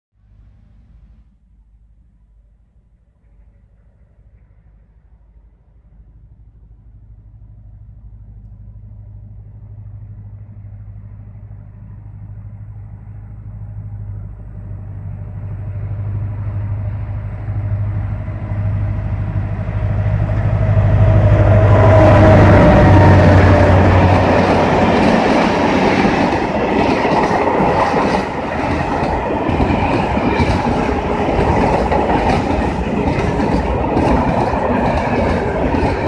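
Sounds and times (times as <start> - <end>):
locomotive engine drone: 0.3 - 36.0
train wheel and rail noise: 0.3 - 36.0.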